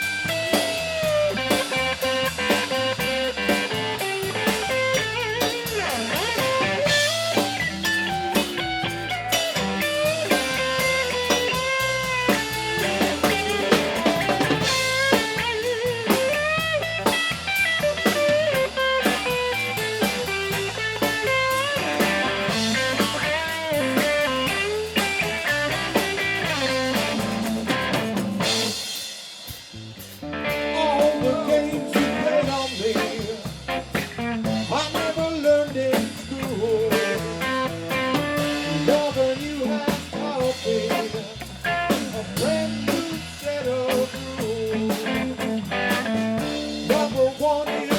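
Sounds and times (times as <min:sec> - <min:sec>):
blues-rock band playing: 0:00.0 - 0:47.9.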